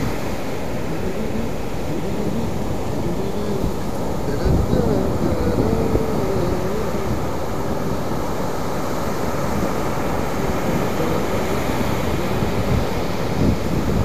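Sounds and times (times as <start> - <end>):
breaking surf: 0.0 - 14.0
wind rumbling on microphone: 0.0 - 14.0.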